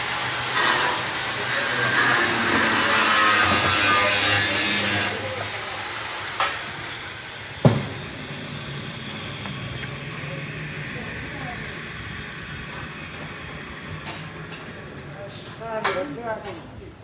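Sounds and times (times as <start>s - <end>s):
loud hissing machine: 0.0s - 14.0s.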